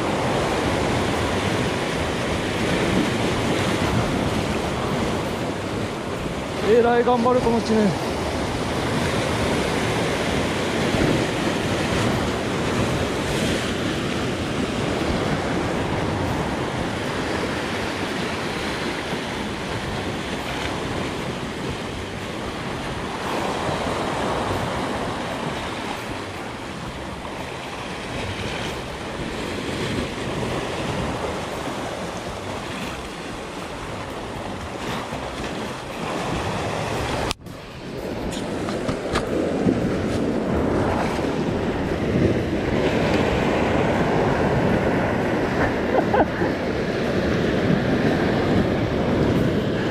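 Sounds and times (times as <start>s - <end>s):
surf breaking on rocks: 0.0s - 49.9s.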